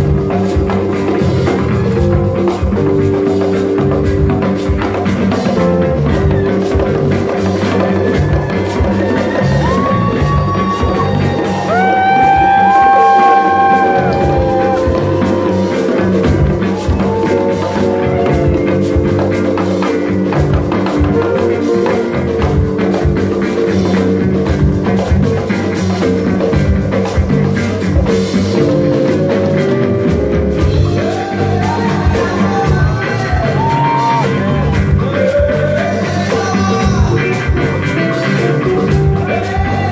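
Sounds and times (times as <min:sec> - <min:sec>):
drum kit: 0:00.0 - 0:39.9
electric guitars: 0:00.0 - 0:39.9
hand drums: 0:00.0 - 0:39.9.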